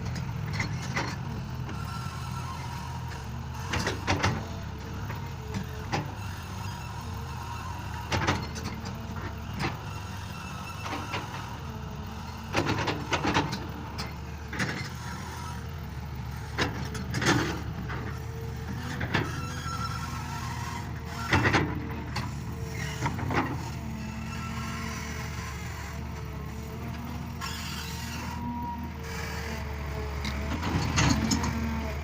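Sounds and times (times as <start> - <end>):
excavator clanks and knocks: 0.0 - 7.0, 7.8 - 28.1, 29.3 - 32.0
diesel engine running: 0.0 - 32.0.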